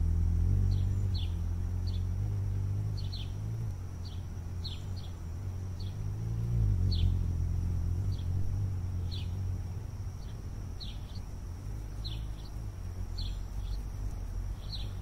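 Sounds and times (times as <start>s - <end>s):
steady low rumble: 0.0s - 15.0s
small bird chirping: 0.5s - 15.0s.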